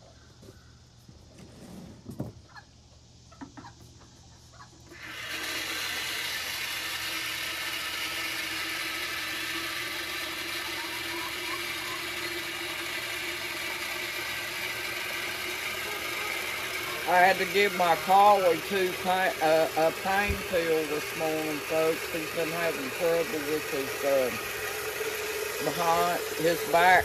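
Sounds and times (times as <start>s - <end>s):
garden hose spraying water: 4.8s - 27.0s.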